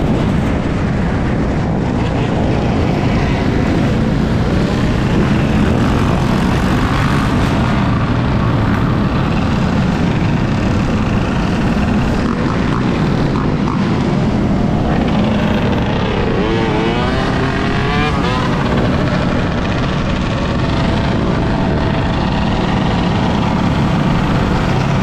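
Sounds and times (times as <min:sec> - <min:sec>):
tyre and road noise: 0:00.0 - 0:25.0
wind rushing on microphone: 0:00.0 - 0:25.0.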